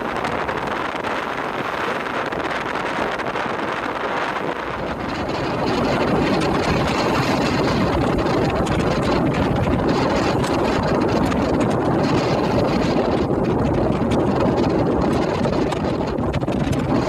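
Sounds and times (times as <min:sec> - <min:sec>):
water noise: 0:00.0 - 0:17.0
wind on microphone: 0:00.0 - 0:17.0.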